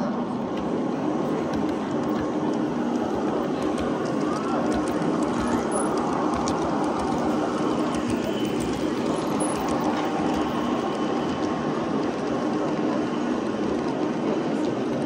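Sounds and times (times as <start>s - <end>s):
model train wheels rolling on rails: 0.0s - 15.0s.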